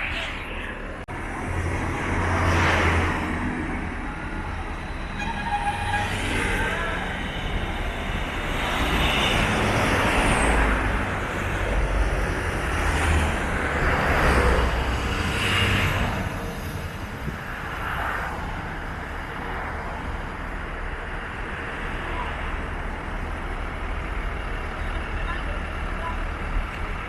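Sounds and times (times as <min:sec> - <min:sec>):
bus engine running: 0:00.0 - 0:17.8, 0:18.7 - 0:27.0
road and traffic noise: 0:00.0 - 0:27.0.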